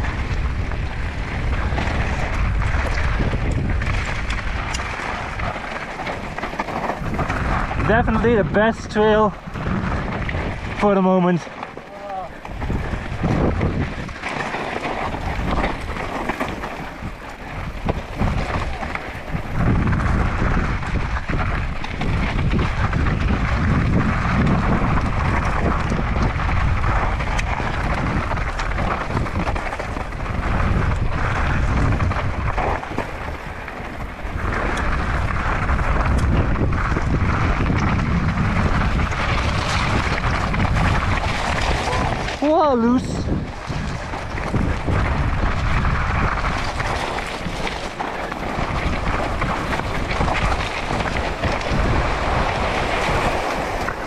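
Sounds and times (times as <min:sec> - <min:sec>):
bike rattles and clicks: 0:00.0 - 0:54.0
tyres crunching over gravel: 0:00.0 - 0:54.0
wind buffeting microphone: 0:00.0 - 0:54.0.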